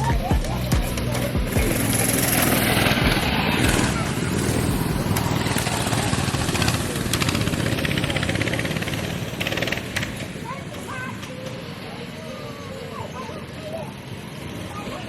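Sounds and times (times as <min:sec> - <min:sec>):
small engine running hard: 0:00.0 - 0:15.0.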